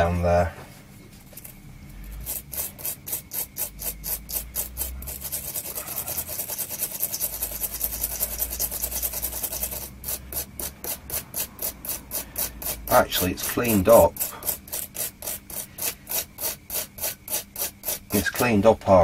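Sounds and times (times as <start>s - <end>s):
wire brush scrubbing: 1.4s - 19.0s.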